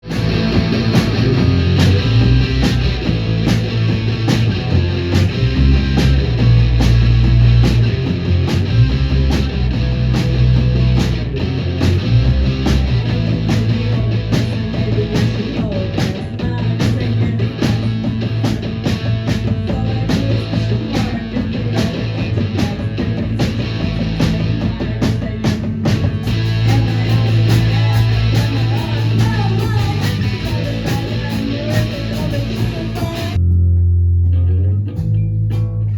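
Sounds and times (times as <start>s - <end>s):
rock band playing live: 0.0s - 33.4s.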